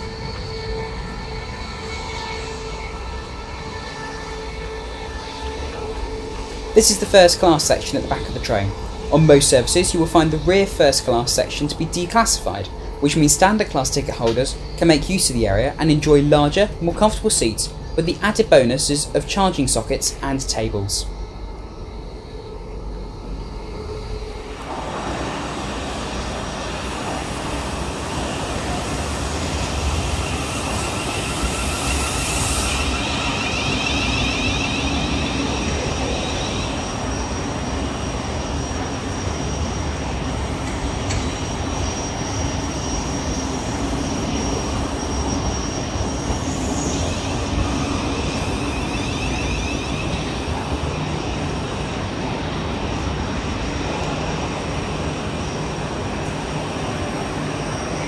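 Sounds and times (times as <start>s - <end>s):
electric train hum and rumble: 0.0s - 58.0s
electronic traction whine: 0.0s - 58.0s.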